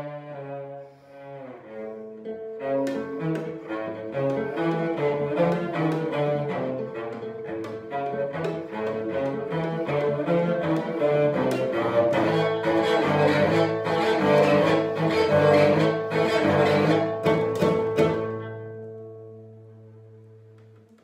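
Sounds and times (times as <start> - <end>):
bowed cello: 0.0 - 21.0.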